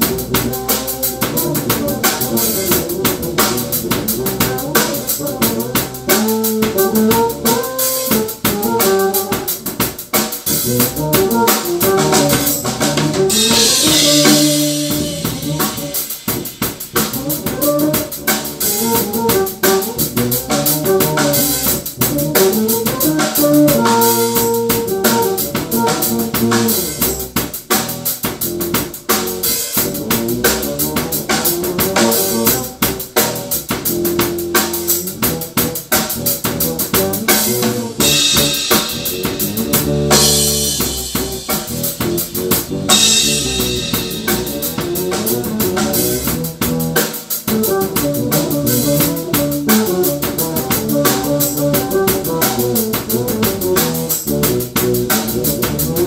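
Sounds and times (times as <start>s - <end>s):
drum kit beat: 0.0s - 56.0s
electric bass line: 0.0s - 56.0s.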